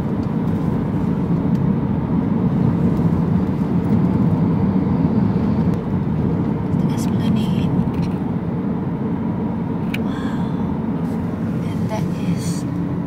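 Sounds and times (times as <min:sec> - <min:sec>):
motor vehicle rumble: 0:00.0 - 0:13.0.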